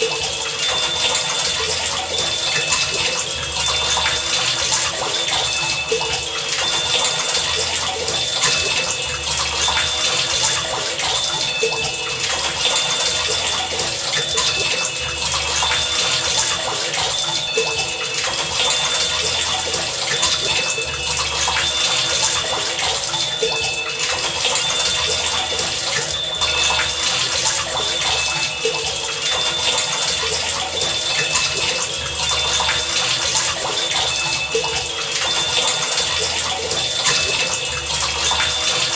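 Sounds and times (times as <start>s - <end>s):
pitched plinks: 0.0s - 38.9s.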